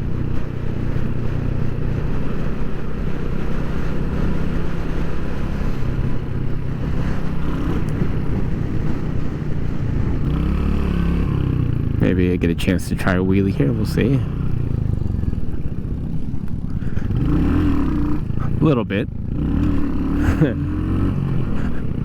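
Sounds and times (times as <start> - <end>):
motorcycle engine running steadily: 0.0 - 22.0.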